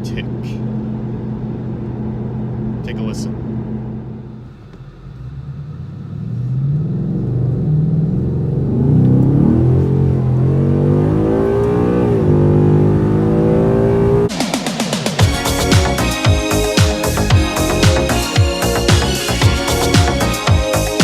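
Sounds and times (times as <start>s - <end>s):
engine revving: 3.6s - 21.0s.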